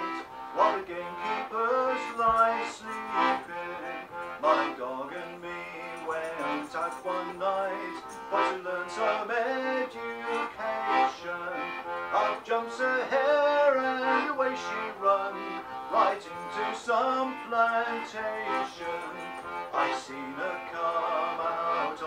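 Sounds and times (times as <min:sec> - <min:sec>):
button accordion folk tune: 0:00.0 - 0:22.0.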